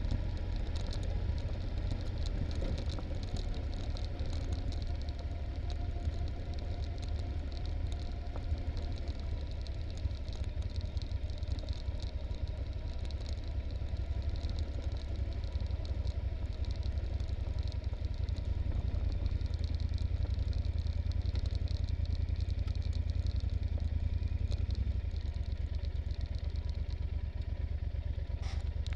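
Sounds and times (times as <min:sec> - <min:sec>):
gravel ticking and clattering: 0:00.0 - 0:28.9
motorcycle engine at low revs: 0:00.0 - 0:28.9.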